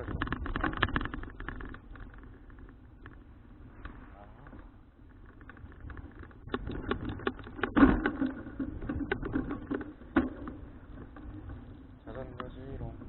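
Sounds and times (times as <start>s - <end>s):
bicycle rattling and clicking: 0.0s - 13.0s.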